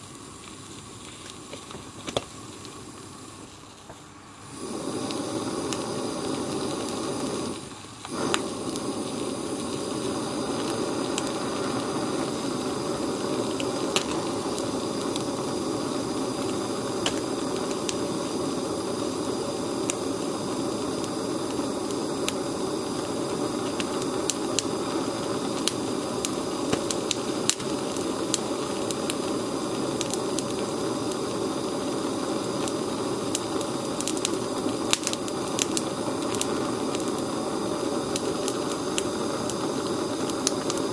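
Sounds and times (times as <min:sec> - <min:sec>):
egg popping and crackling: 0:00.0 - 0:04.0, 0:04.9 - 0:40.9
blow torch flame hissing: 0:00.0 - 0:40.9.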